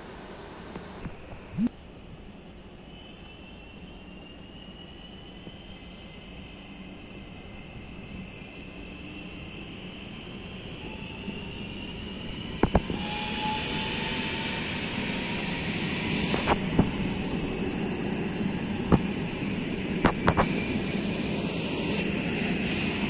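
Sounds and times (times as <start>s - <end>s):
train rushing past: 2.8s - 23.0s.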